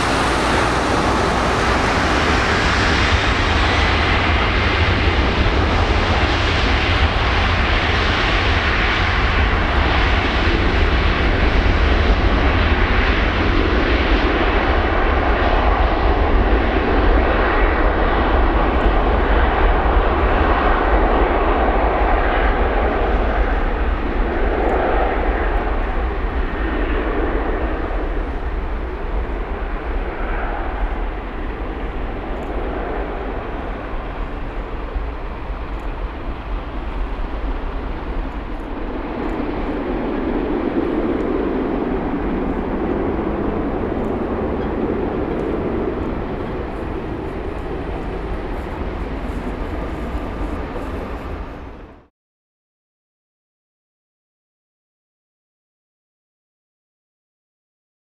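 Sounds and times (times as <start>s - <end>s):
loud jet engine roar: 0.0s - 52.1s.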